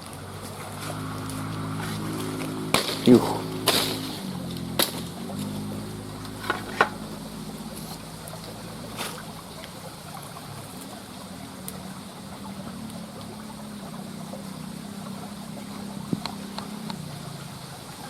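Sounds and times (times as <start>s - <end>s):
faint trickling water: 0.0s - 18.0s
motor humming: 0.0s - 18.0s.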